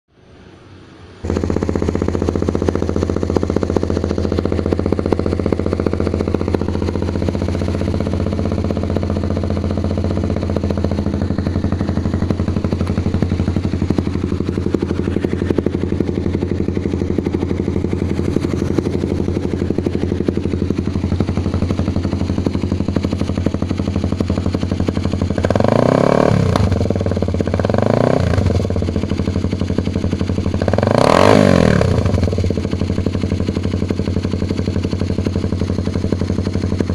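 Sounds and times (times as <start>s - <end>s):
motorcycle idling: 0.3s - 36.9s
motorcycle throttle blips: 1.2s - 36.9s.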